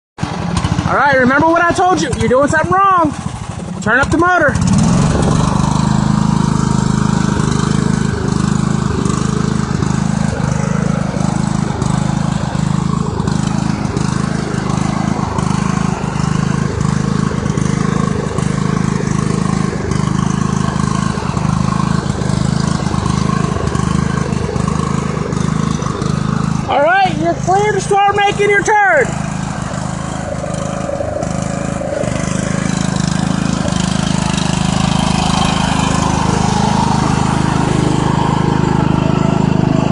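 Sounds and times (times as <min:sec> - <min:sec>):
tractor engine running: 0:00.2 - 0:39.9.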